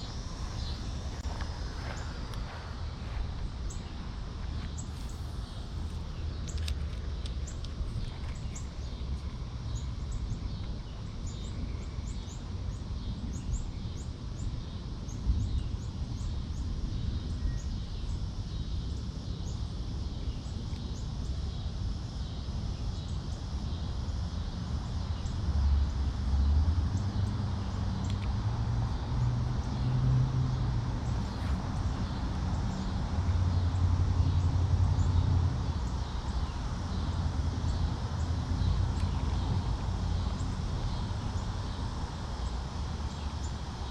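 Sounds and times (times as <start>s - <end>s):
small birds chirping: 0.0s - 25.5s, 30.8s - 43.9s.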